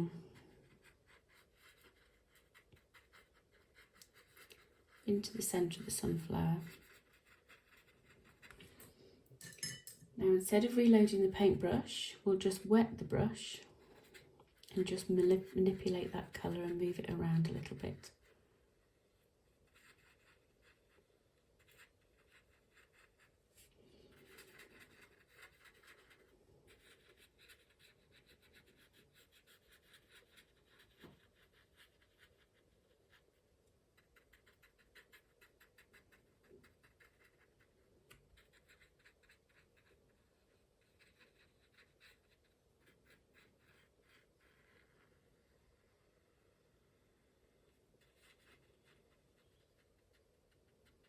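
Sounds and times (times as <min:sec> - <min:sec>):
paintbrush brushing on paper: 0:00.0 - 0:08.8, 0:10.8 - 0:46.3, 0:47.1 - 0:51.0.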